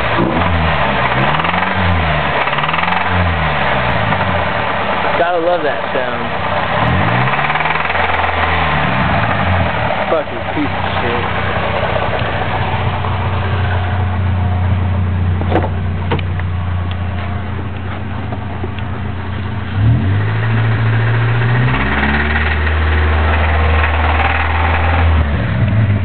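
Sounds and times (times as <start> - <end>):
car engine knocking and revving: 0.0 - 26.0.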